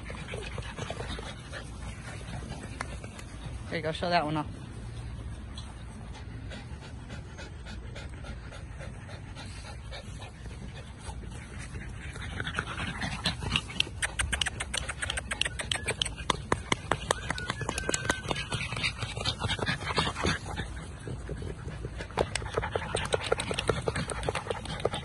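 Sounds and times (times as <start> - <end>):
puppy panting: 0.0 - 25.0.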